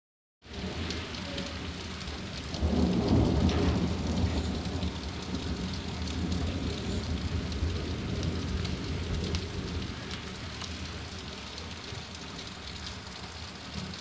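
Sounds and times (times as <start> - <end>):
steady rain: 0.4 - 14.0
low rumble of thunder: 0.5 - 12.1.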